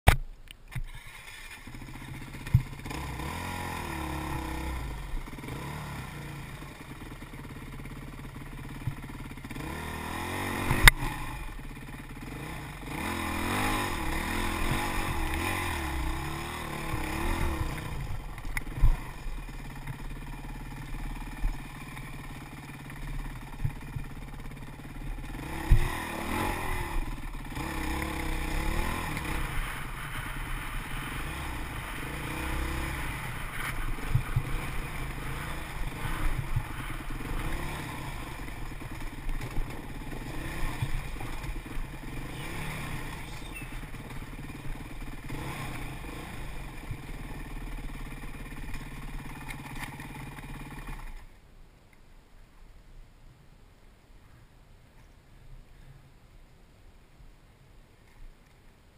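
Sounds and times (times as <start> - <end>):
dirt bike engine revving: 0.7 - 51.2.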